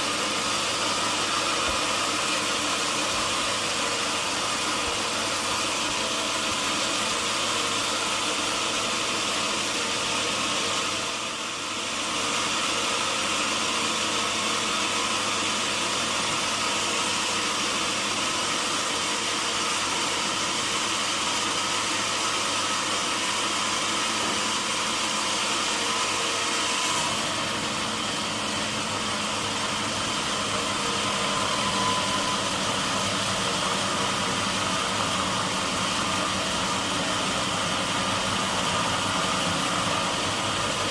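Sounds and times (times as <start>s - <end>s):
sawmill machinery hum and hiss: 0.0s - 40.9s.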